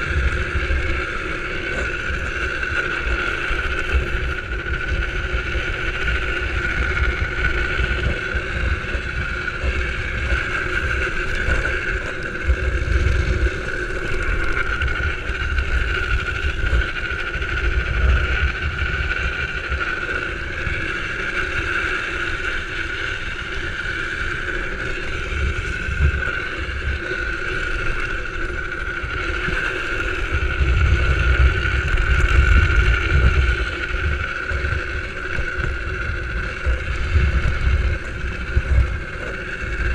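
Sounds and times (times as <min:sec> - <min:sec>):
constant whine: 0:00.0 - 0:39.9
wheels rolling on asphalt: 0:00.0 - 0:39.9
wind buffeting microphone: 0:00.0 - 0:39.9.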